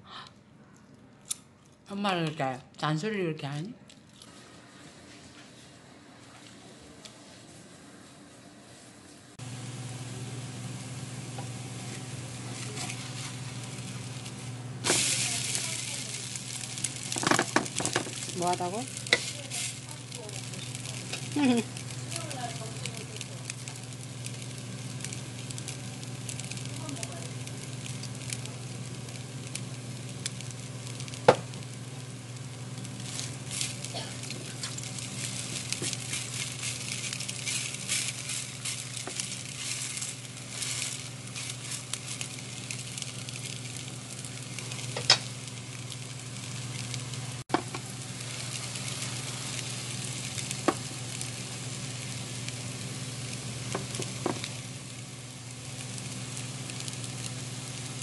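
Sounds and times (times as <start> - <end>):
pancake sizzling in oil: 8.7 - 58.0.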